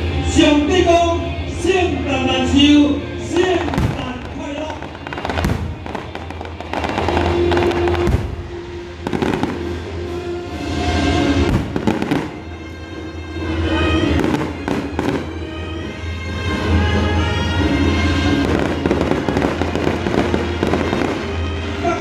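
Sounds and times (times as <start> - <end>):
music playing: 0.0 - 22.0
fireworks bangs and crackles: 3.4 - 15.8, 16.5 - 22.0.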